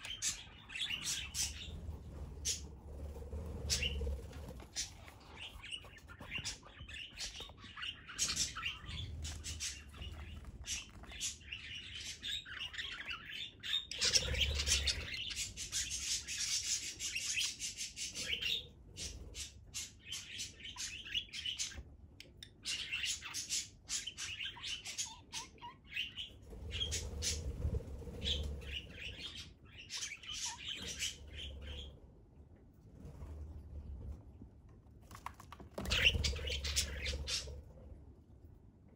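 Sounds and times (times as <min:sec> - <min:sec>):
budgerigars chirping and squawking: 0:00.0 - 0:32.0, 0:35.8 - 0:37.6.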